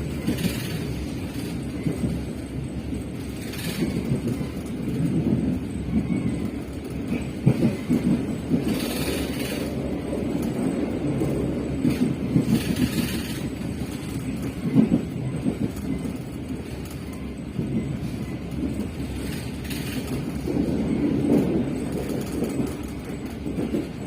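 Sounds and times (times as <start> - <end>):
train rumbling on track: 0.0 - 24.0
wheels knocking on rails: 0.0 - 24.0.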